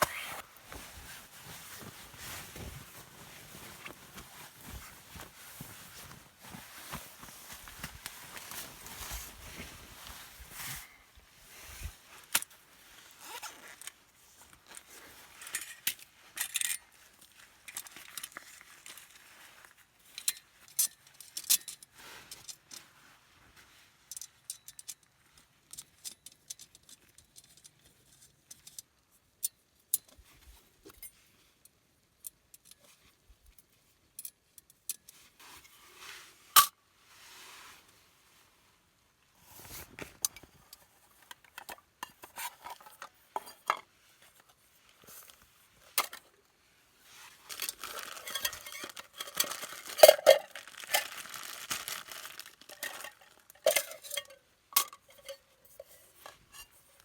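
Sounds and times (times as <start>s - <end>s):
small clicks and rustles: 0.0s - 57.0s.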